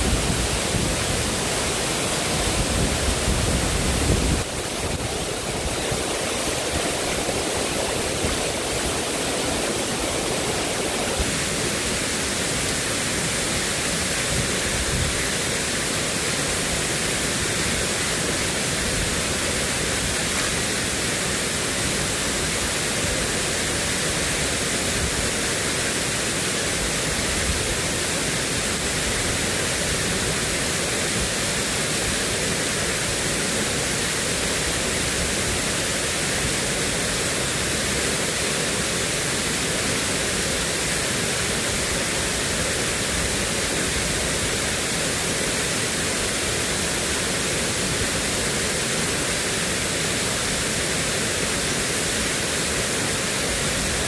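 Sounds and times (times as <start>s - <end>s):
hiss of water: 0.0s - 54.0s.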